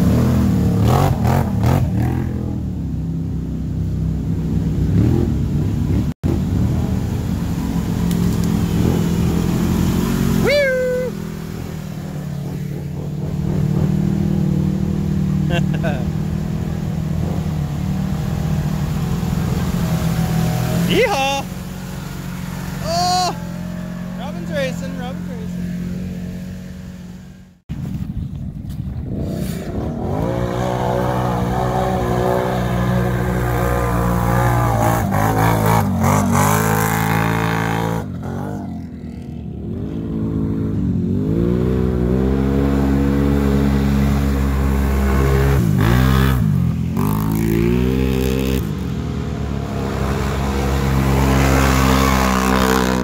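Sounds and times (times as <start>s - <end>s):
atv engine revving: 0.0s - 27.6s, 29.1s - 53.0s.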